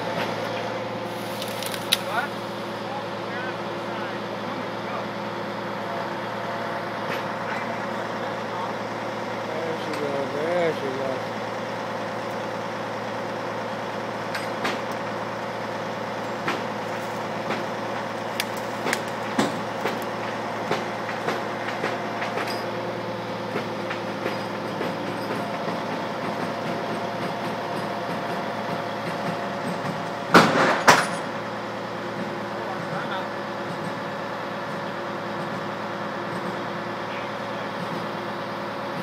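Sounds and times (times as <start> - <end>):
heavy machinery whining: 0.0 - 39.0.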